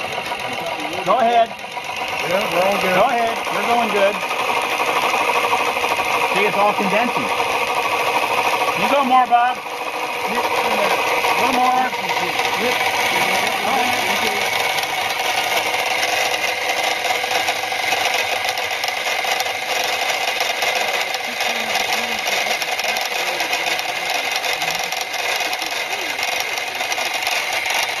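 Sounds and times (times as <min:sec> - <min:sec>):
steam engine mechanical clatter: 0:00.0 - 0:28.0.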